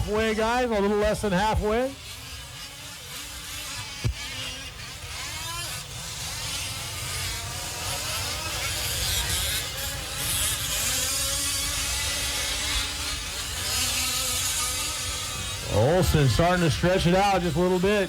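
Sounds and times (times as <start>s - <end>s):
model truck engines revving: 0.0s - 18.0s.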